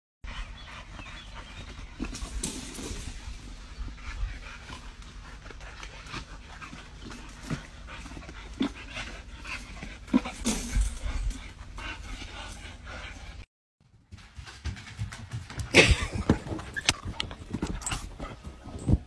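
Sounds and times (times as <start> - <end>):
dogs panting: 0.2 - 13.5, 14.4 - 19.0.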